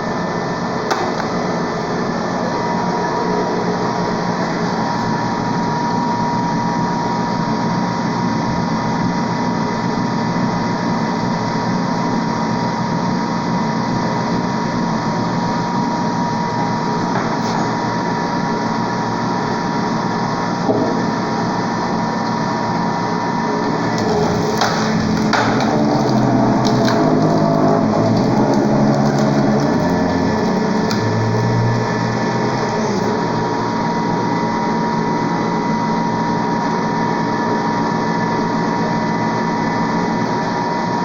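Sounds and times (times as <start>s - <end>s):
log splitter motor and pump: 0.0s - 41.0s.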